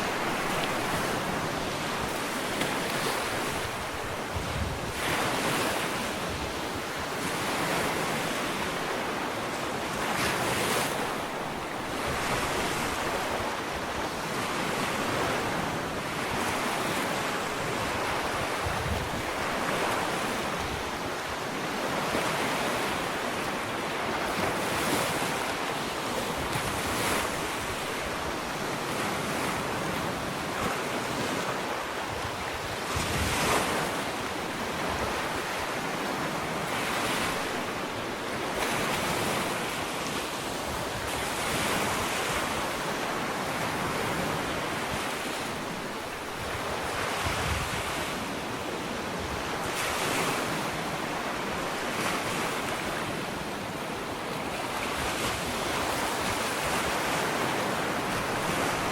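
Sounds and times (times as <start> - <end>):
ocean waves breaking on beach: 0.0 - 58.9
wind on microphone: 0.0 - 58.9.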